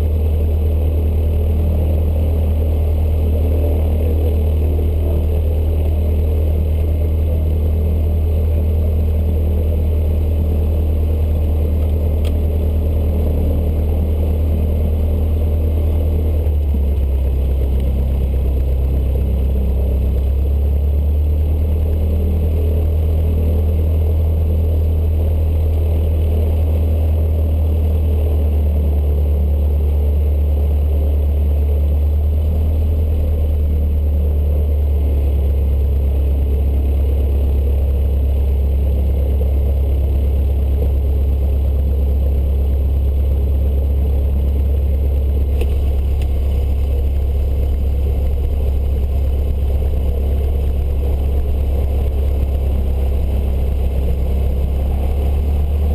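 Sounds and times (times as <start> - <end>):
aircraft engine and propeller drone: 0.0 - 55.9.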